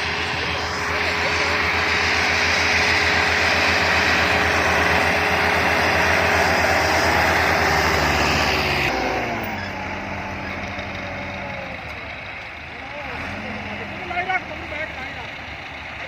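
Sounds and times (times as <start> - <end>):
diesel tractor engine at full throttle: 0.0 - 16.0.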